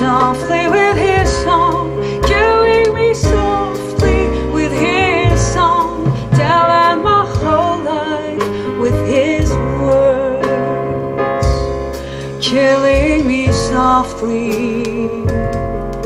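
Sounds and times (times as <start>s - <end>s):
woman singing with vibrato: 0.0s - 10.6s, 12.4s - 15.3s
drums with cymbal taps: 0.0s - 10.8s, 11.4s - 16.0s
jazz-pop ballad over loudspeakers: 0.0s - 16.0s
piano: 0.0s - 16.0s.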